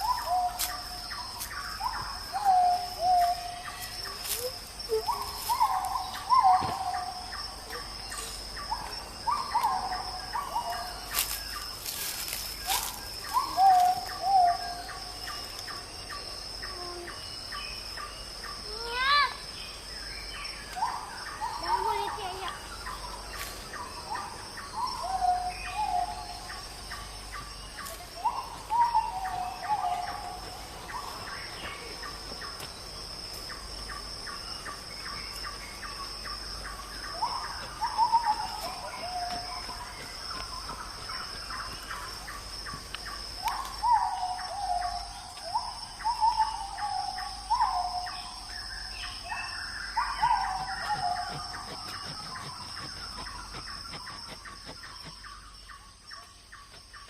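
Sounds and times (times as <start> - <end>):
high-pitched insect drone: 0.0 - 56.8.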